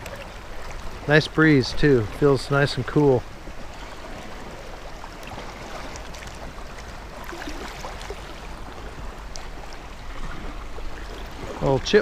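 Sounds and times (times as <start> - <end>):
waves lapping on rocks: 0.0 - 12.0.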